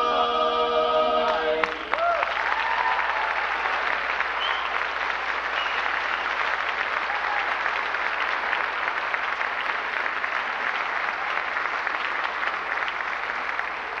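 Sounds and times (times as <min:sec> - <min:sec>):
audience applauding: 0:01.3 - 0:14.0.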